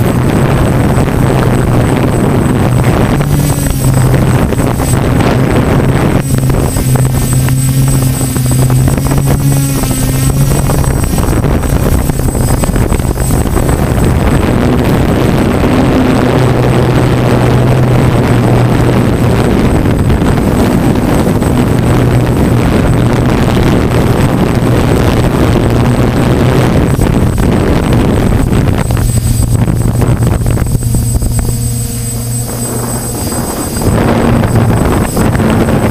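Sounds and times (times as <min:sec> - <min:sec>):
drone motors buzzing: 0:00.0 - 0:35.9.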